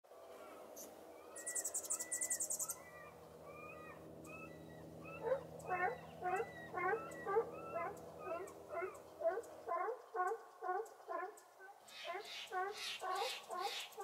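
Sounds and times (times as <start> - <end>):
steady low hum: 0.1 - 14.0
animal and bird calls: 0.2 - 14.0.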